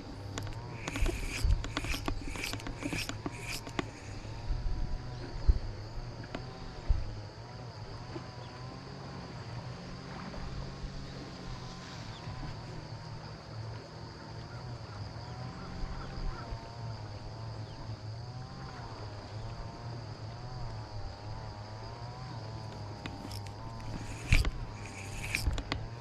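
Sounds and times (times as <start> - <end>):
motor humming with wavering whine: 0.0 - 26.0.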